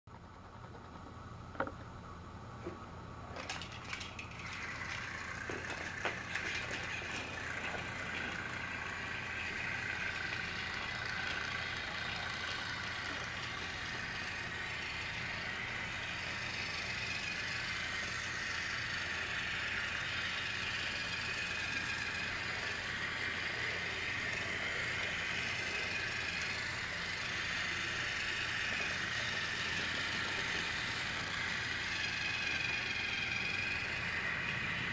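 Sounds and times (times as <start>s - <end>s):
rattle of gears and wheels: 0.1s - 2.0s, 2.6s - 34.9s
toy train motor whining: 3.3s - 34.9s.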